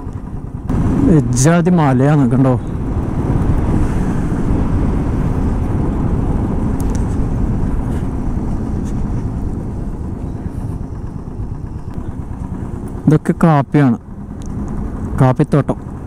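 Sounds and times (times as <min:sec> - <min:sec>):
engine and road rumble: 0:00.0 - 0:16.0
wind buffeting microphone: 0:00.0 - 0:16.0.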